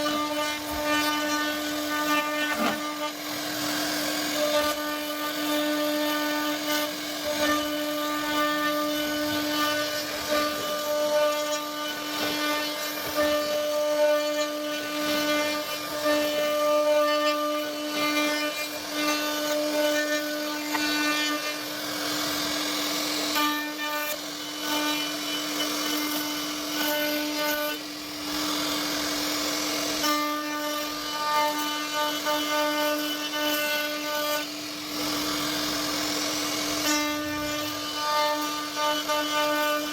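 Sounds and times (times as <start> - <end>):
bit rasping through wood: 0.0 - 39.9
router spindle whining: 0.0 - 39.9.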